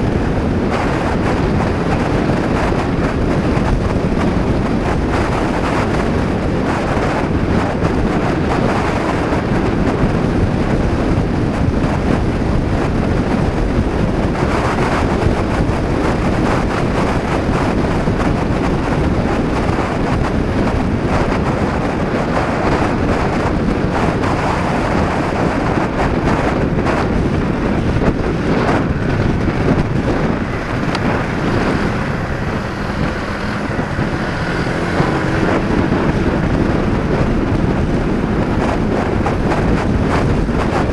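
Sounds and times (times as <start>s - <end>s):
scooter engine running: 0.0s - 40.9s
wind buffeting microphone: 0.0s - 40.9s.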